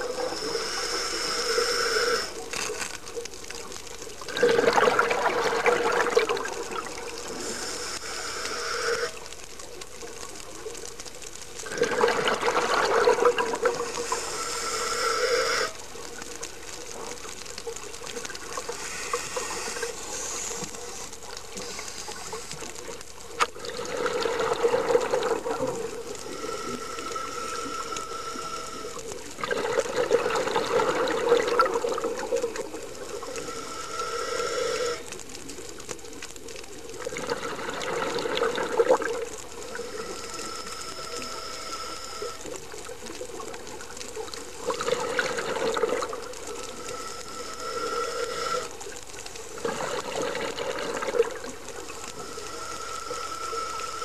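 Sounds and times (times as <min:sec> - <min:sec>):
exhaled bubbles underwater: 0:03.5 - 0:07.9, 0:11.6 - 0:14.4, 0:16.0 - 0:54.0.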